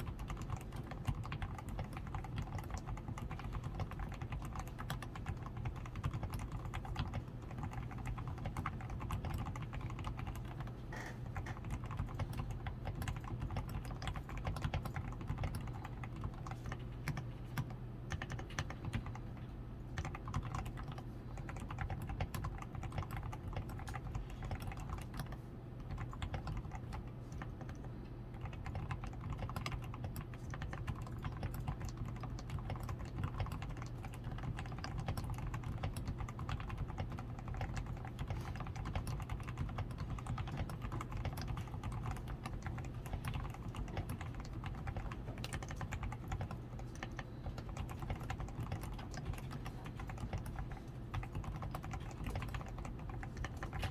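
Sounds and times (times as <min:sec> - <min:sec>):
mechanical keyboard typing: 0:00.0 - 0:53.9
steady low hum: 0:00.0 - 0:53.9.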